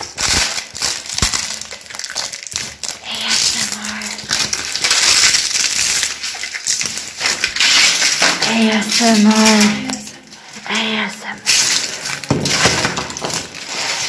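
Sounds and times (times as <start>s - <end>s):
debris crunching underfoot: 0.0s - 14.0s.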